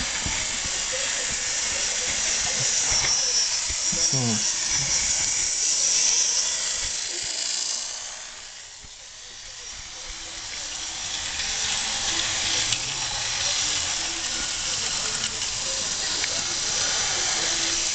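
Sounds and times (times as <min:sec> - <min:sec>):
model train motor whirring: 0:00.0 - 0:17.9.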